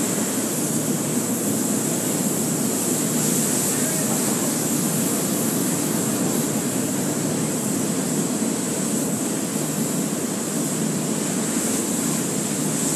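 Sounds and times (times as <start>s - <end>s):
pressure washer spraying hiss: 0.0s - 12.9s.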